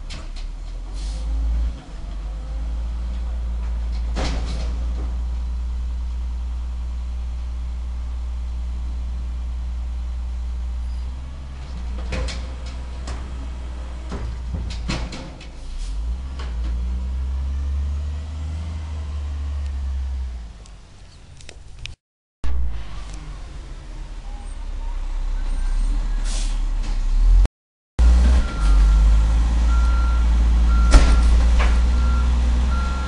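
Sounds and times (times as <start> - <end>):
diesel engine droning: 0.0 - 21.9, 22.5 - 33.0.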